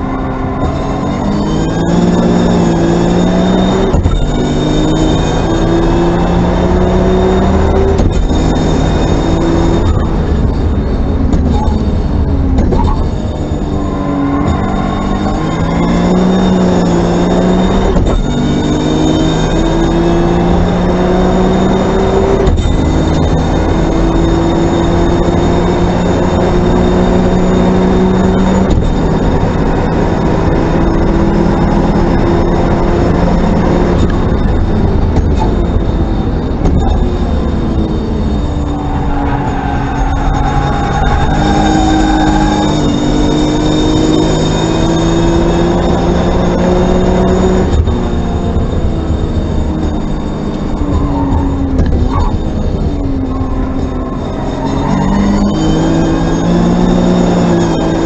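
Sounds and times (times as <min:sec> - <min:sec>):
gear changes: 0:00.0 - 0:58.0
racing car engine accelerating: 0:00.0 - 0:58.0
road and wind noise: 0:00.0 - 0:58.0.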